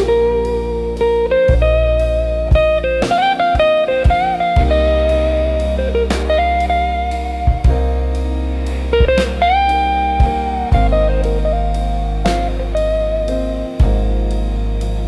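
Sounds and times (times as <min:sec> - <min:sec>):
bass: 0:00.0 - 0:15.0
lead guitar bending notes: 0:00.0 - 0:15.0
slow drum beat: 0:00.0 - 0:15.0.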